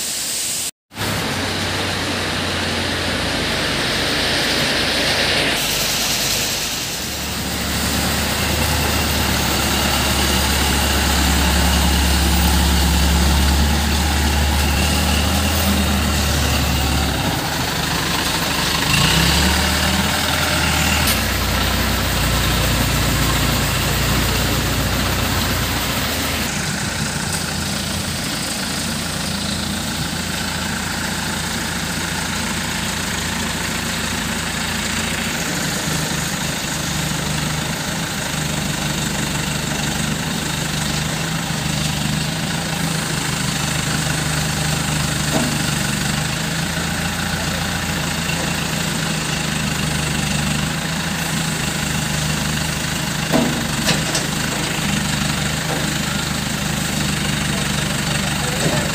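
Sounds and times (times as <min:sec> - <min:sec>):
crane diesel engine running: 0:00.9 - 0:58.9.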